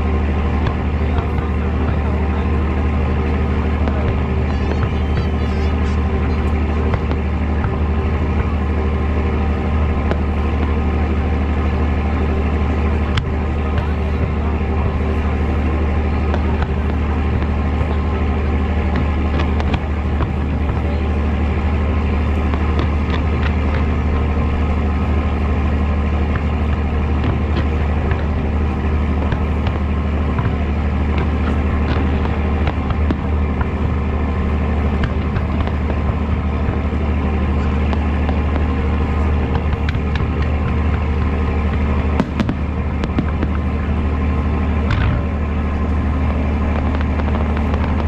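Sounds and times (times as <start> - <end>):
fireworks crackles and pops: 0.0 - 48.0
low rumble: 0.0 - 48.0.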